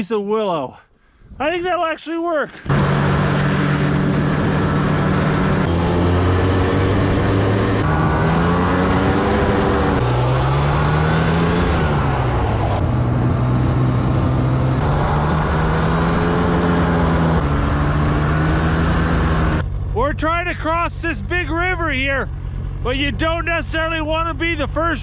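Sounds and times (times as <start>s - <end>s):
snowmobile engine running: 2.5s - 25.0s.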